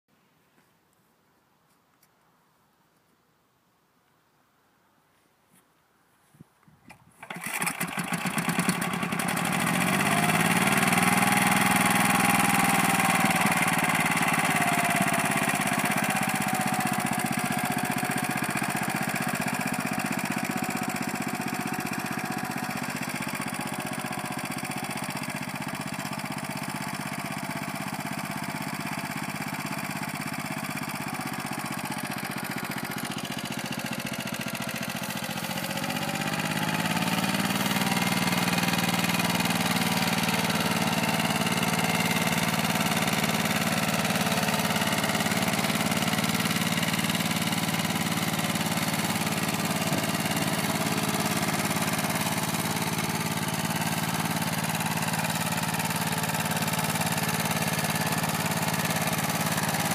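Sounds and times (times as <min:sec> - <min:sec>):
tractor engine starting and running: 0:06.9 - 0:59.9.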